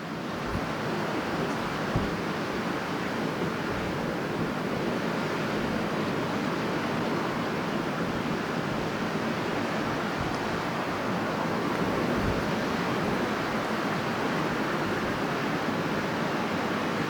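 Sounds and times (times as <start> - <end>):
strong wind blowing: 0.4 - 17.0.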